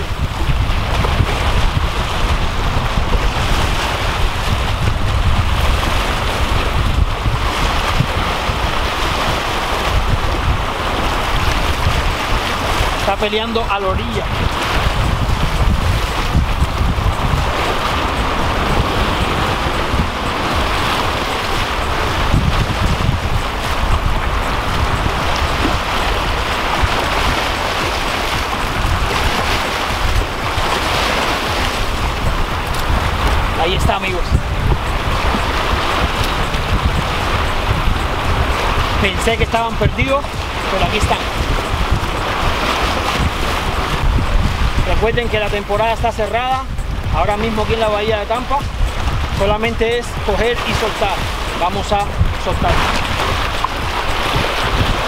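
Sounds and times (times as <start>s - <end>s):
water slapping against rocks: 0.0s - 55.0s
wind buffeting microphone: 0.0s - 55.0s.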